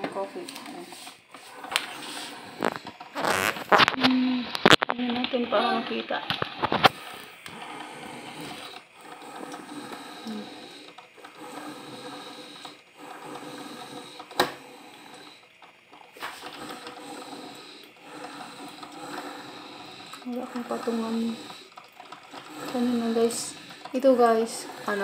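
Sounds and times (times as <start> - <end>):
coffee maker humming: 0.0 - 25.0.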